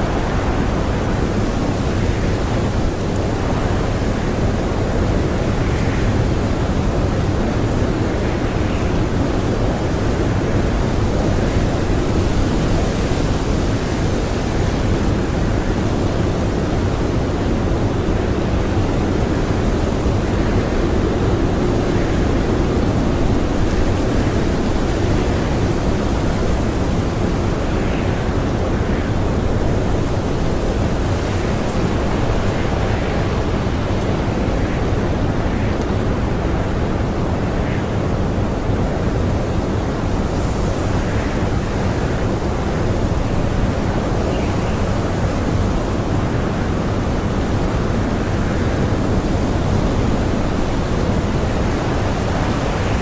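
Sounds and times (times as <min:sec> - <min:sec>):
strong blizzard wind: 0:00.0 - 0:53.0.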